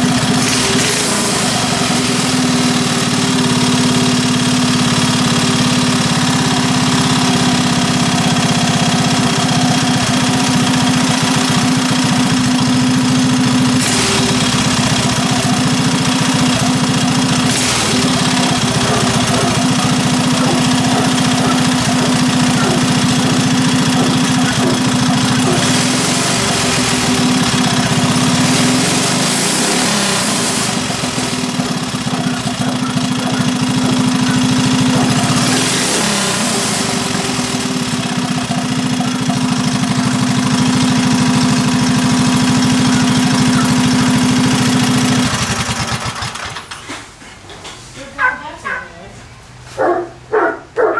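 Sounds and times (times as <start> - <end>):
small engine running loud: 0.0 - 47.0.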